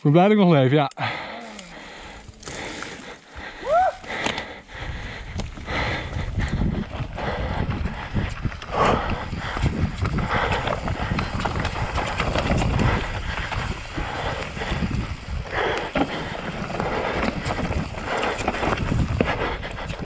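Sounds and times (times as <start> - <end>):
bike rattling: 1.0 - 20.0
bike tyres crunching over dirt: 1.1 - 20.0
wind noise on microphone: 3.4 - 20.0.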